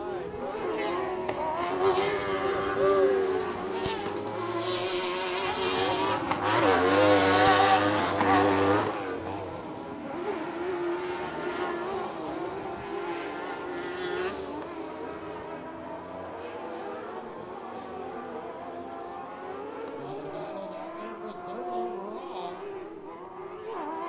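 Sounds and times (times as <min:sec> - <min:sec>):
racing engines running hard: 0:00.0 - 0:24.0.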